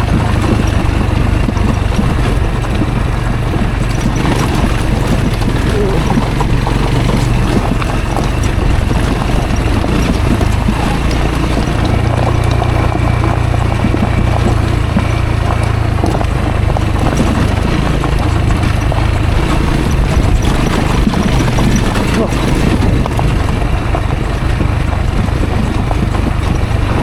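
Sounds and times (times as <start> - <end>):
clatter of knocks and rattles: 0.0 - 27.0
motorcycle engine at low revs: 0.0 - 27.0.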